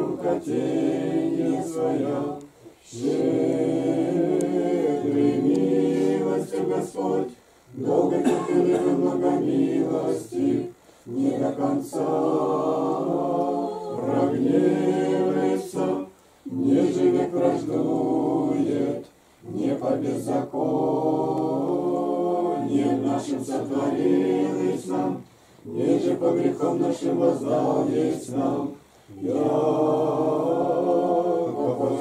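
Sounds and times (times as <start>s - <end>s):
congregation singing a cappella chant: 0.0s - 32.0s.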